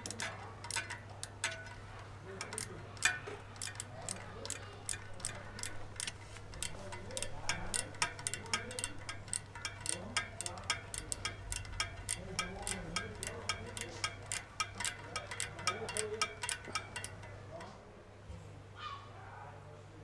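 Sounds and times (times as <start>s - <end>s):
rapid sharp ticking: 0.0s - 17.8s.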